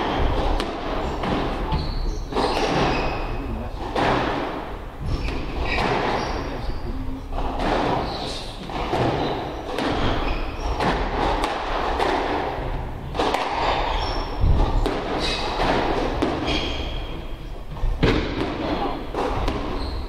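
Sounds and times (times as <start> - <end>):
shoes squeaking on wooden floor: 0.0 - 20.0
squash ball hitting racquets and walls: 0.0 - 20.0.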